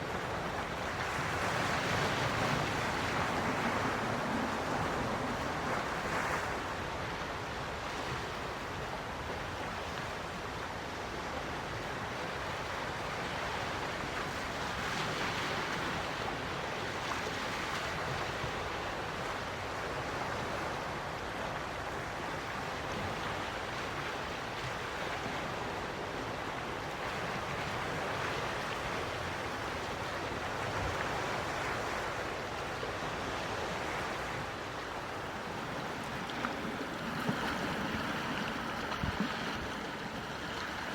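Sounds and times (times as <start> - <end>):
sea waves washing ashore: 0.0 - 40.9.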